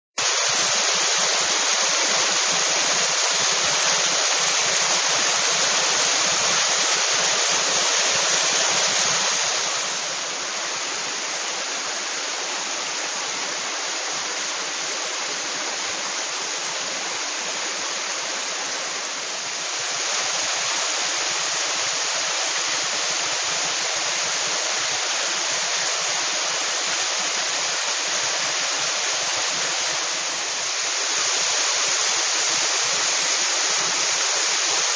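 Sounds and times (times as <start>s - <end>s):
waterfall rushing and splashing: 0.2s - 34.9s.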